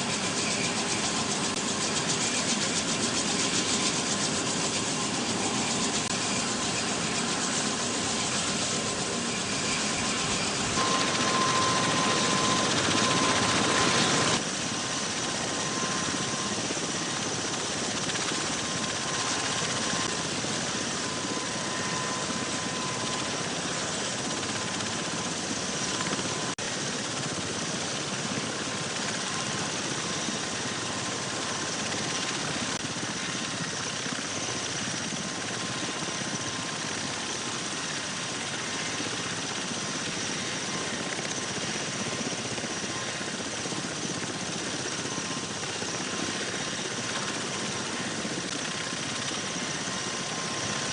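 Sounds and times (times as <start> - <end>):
aircraft engines and rotors rushing: 0.0 - 50.9.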